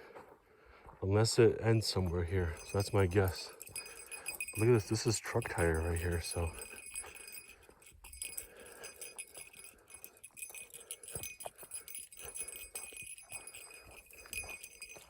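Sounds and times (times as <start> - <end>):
small bell jingling: 1.3 - 15.0.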